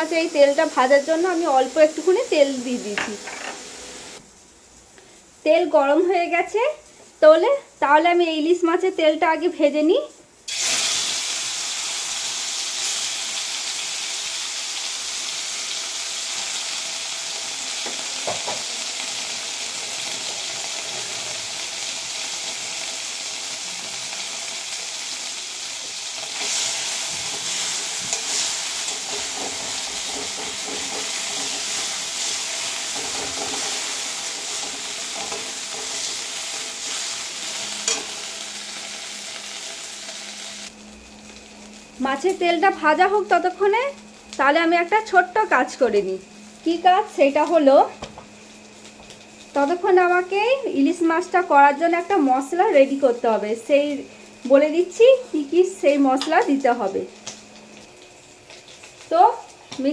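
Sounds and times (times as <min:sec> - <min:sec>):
fish sizzling in oil: 0:00.0 - 0:08.8, 0:09.4 - 0:59.9.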